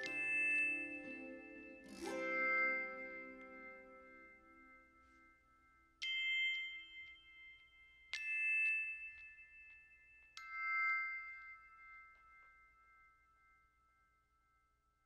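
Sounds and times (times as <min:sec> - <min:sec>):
bell-like notes ringing: 0:00.0 - 0:13.9.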